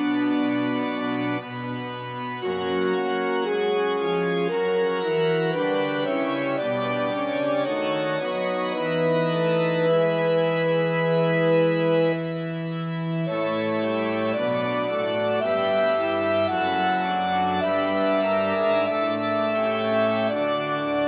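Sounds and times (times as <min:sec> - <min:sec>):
organ music slow chords: 0:00.0 - 0:21.0.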